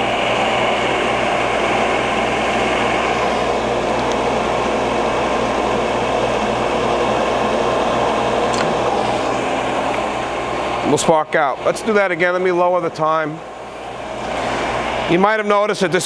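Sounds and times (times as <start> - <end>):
grinding machine running: 0.0 - 16.0.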